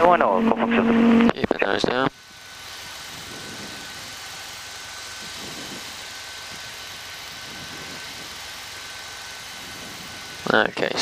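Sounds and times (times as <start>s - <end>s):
aircraft engine and propeller hiss: 0.0s - 11.0s
thin steady whine: 0.0s - 11.0s.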